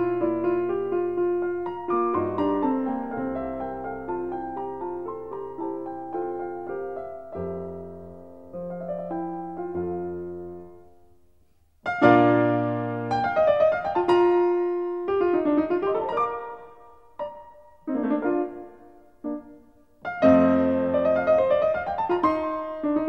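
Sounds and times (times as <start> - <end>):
piano music: 0.0 - 11.1, 11.8 - 23.0.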